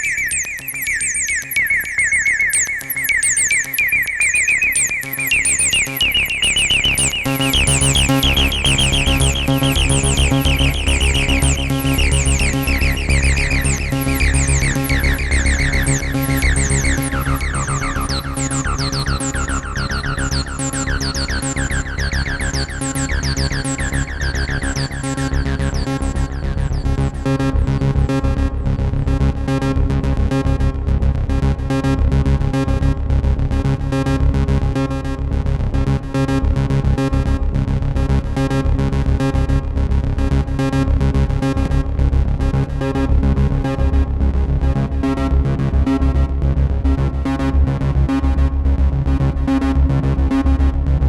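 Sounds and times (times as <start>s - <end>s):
arpeggiated bass synth: 0.0s - 51.0s.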